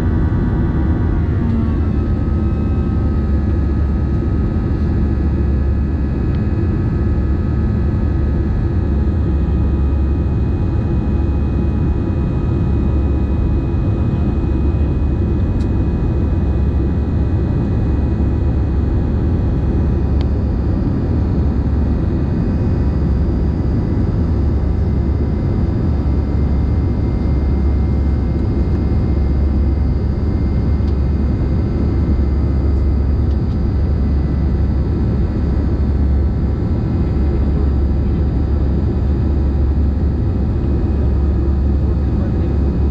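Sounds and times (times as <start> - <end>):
faint steady whine: 0.0 - 42.9
jet engine cabin rumble: 0.0 - 42.9.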